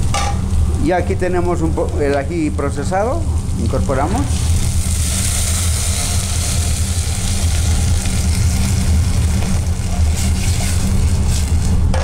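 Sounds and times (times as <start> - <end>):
low rumble of kitchen equipment: 0.0 - 12.0
sauce sizzling in a hot pot: 0.0 - 12.0.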